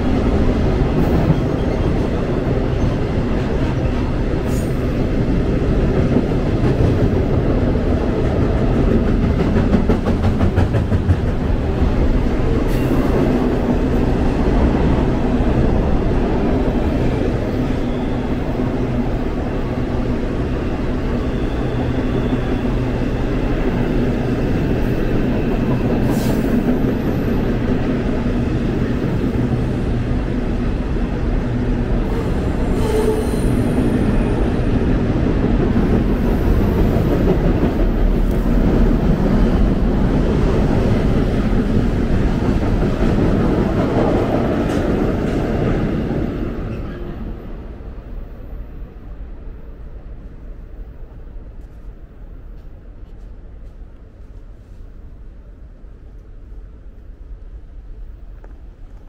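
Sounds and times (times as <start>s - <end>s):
freight train rumbling over steel bridge: 0.0s - 59.0s.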